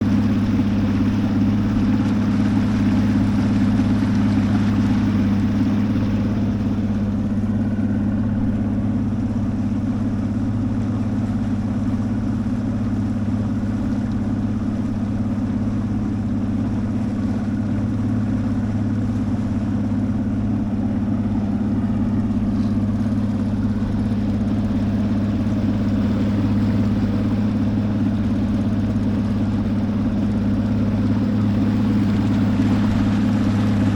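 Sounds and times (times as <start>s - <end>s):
motorboat engine droning: 0.0s - 33.9s.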